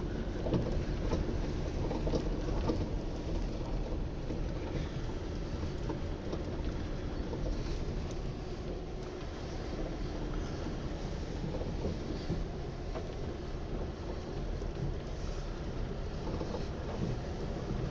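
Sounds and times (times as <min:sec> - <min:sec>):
low engine rumble: 0:00.0 - 0:17.9.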